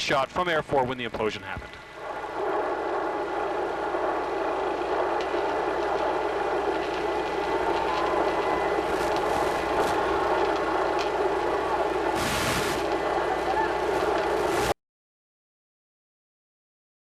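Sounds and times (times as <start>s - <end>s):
thin steady whine: 0.0s - 14.8s
helicopter engine and rotor: 1.0s - 14.6s.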